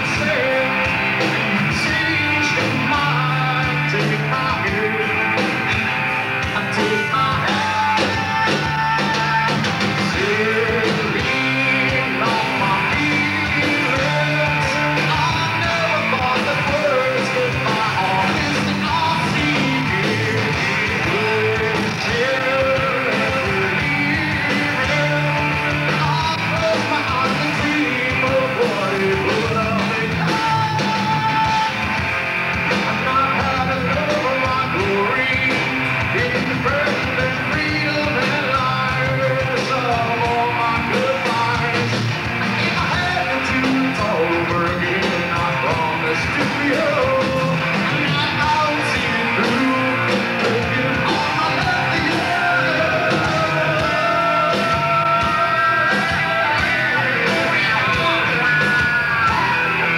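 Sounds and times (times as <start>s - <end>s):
person singing and yelling: 0.0s - 32.0s, 32.6s - 59.9s
heavy rock band playing live: 0.0s - 59.9s.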